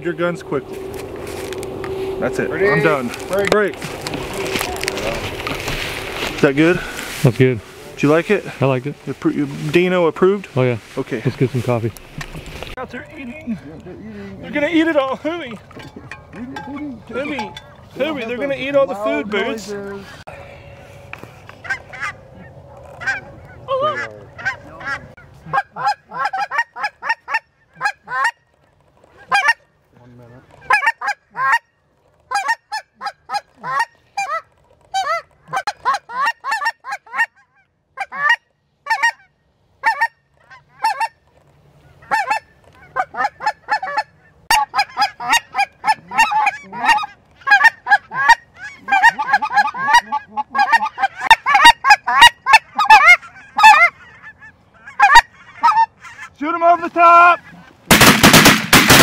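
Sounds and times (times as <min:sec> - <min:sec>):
geese honking: 0:00.0 - 0:12.8, 0:16.9 - 0:59.0.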